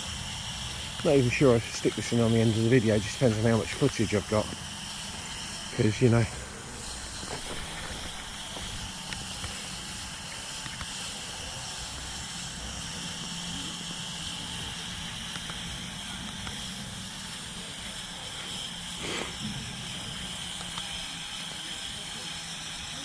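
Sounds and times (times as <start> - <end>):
small electric motors running: 0.0 - 23.0.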